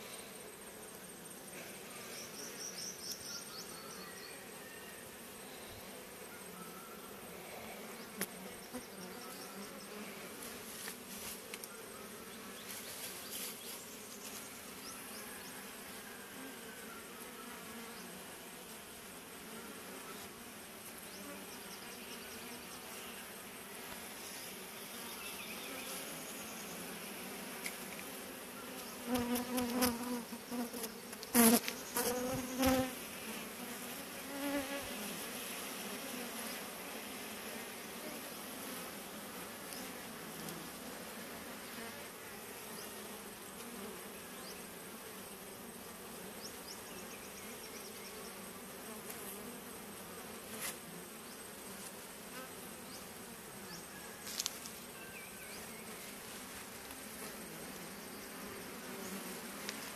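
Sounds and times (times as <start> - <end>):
bee swarm humming: 0.0 - 59.9
bees buzzing loudly close by: 0.0 - 59.9.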